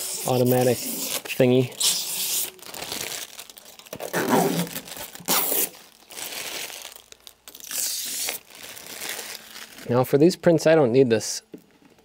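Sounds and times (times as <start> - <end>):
plastic bag crinkling: 0.3 - 10.2.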